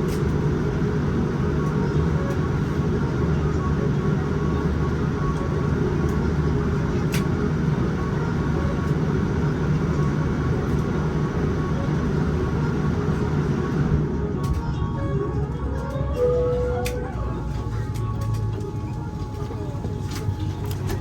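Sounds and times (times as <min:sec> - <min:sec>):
airliner cabin rumble and air rush: 0:00.0 - 0:21.0
faint constant hums: 0:00.0 - 0:21.0.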